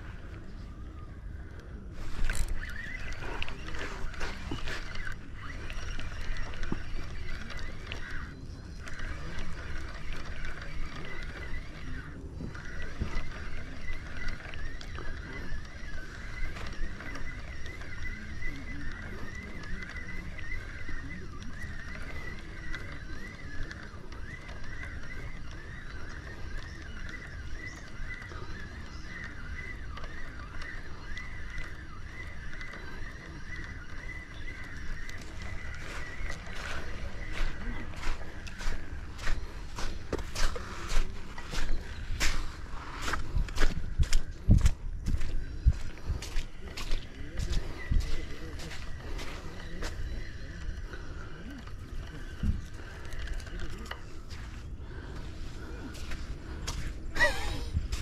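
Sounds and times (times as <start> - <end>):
animals calling in chorus: 0.0 - 58.0.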